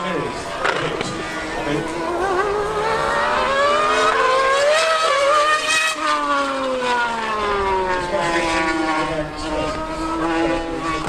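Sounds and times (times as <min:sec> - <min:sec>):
car engine accelerating: 0:00.0 - 0:11.0
superbike engine accelerating: 0:00.0 - 0:11.0.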